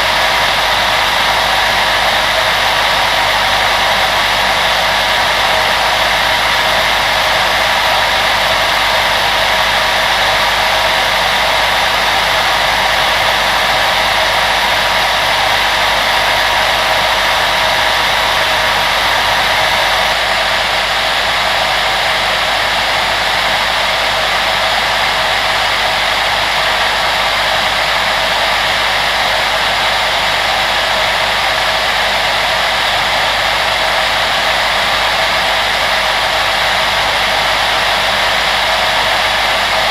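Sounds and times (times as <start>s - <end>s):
electric fan whirring: 0.0s - 39.9s.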